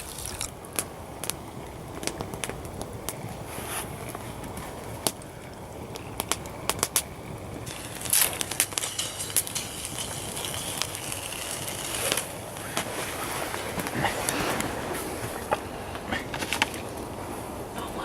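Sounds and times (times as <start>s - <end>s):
sharp pops from fire: 0.0s - 15.6s
campfire crackling: 0.0s - 18.0s.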